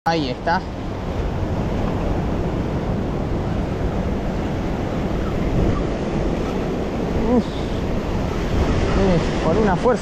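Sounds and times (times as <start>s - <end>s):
wind buffeting microphone: 0.1s - 10.0s.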